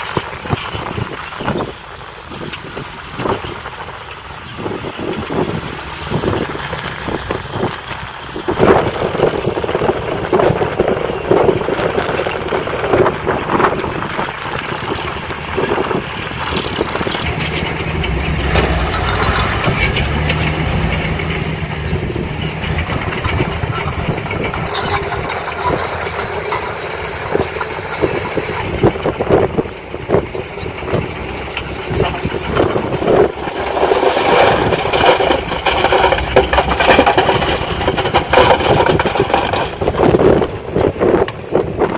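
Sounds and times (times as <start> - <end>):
diesel engine running: 0.0 - 41.9
knocks and clatter: 0.0 - 41.9.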